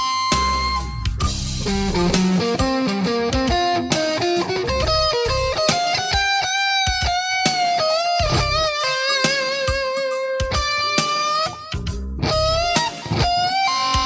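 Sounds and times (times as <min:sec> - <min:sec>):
electric guitar lead: 0:00.0 - 0:14.0.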